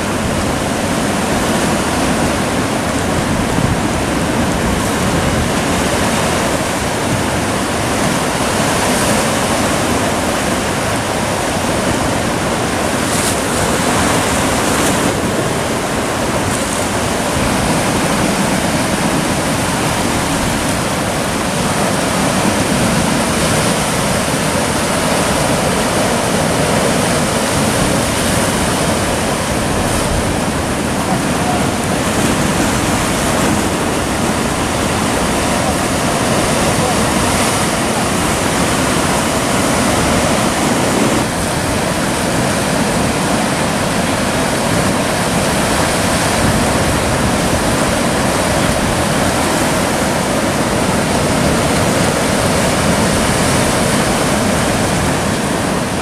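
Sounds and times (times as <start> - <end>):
surf breaking on rocky shore: 0.0 - 56.0.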